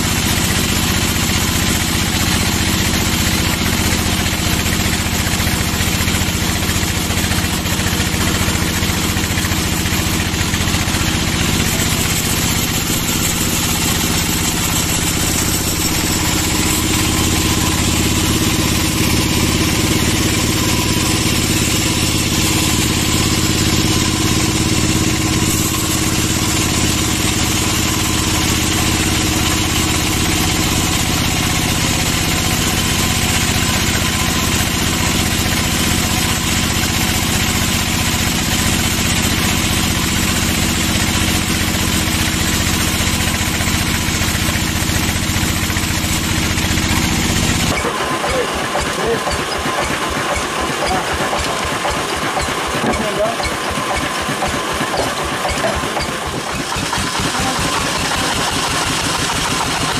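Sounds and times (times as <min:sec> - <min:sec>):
sawmill machine drone: 0:00.0 - 0:59.9.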